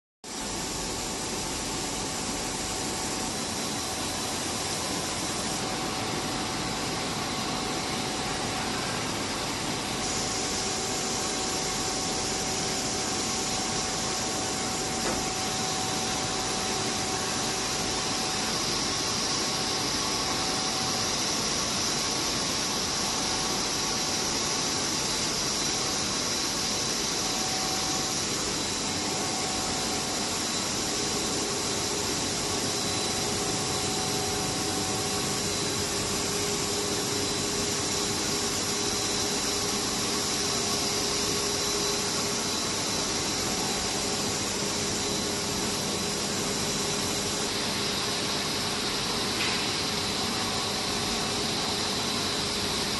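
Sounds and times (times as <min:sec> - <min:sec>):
machinery hum and hiss: 0:00.2 - 0:52.9
thin steady whine: 0:00.2 - 0:52.9.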